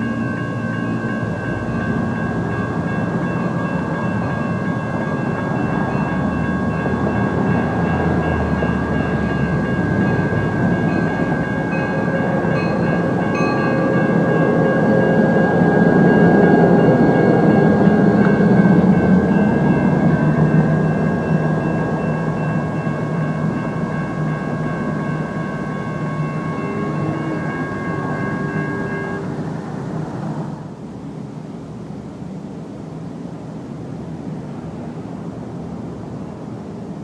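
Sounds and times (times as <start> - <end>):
diesel locomotive engine rumble: 0.0 - 37.0.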